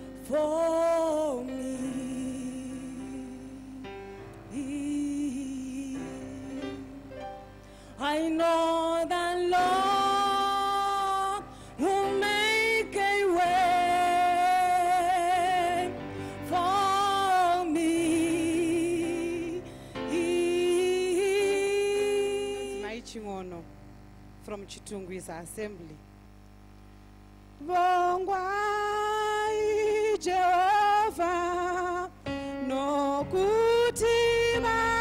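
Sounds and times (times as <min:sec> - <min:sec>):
woman singing into a microphone: 0:00.0 - 0:07.2, 0:07.9 - 0:23.3, 0:27.6 - 0:35.0.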